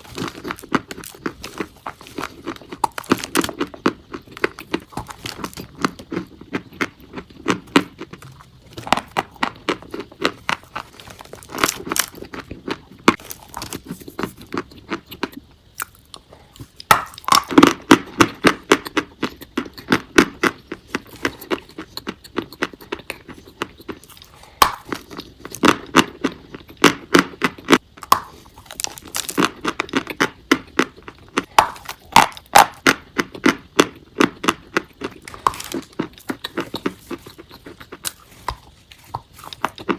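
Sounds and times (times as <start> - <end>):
chalk crunching being chewed: 0.0 - 17.3, 18.4 - 26.9, 27.5 - 39.9.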